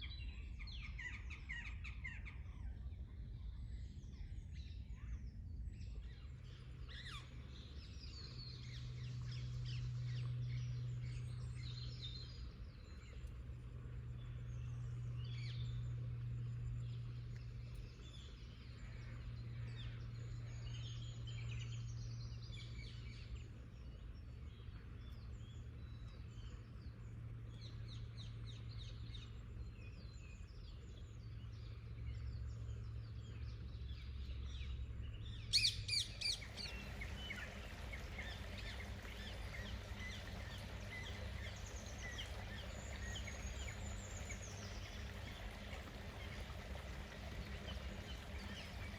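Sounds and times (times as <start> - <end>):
songbirds chirping and trilling: 0.0 - 48.9
steady low hum: 2.4 - 48.9.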